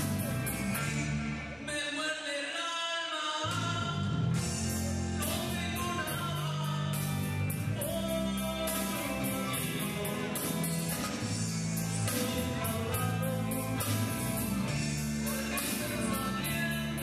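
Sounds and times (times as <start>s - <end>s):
rock band with singer: 0.0s - 17.0s.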